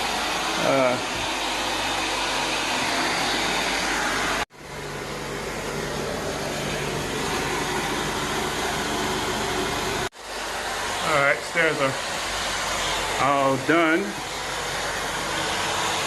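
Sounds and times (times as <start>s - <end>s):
carpet extraction vacuum running: 0.0s - 16.0s.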